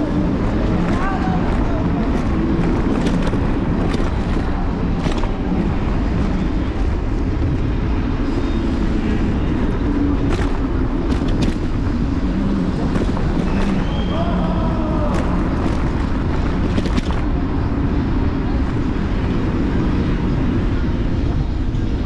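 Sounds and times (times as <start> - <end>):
scooter wind and road rumble: 0.0 - 22.0.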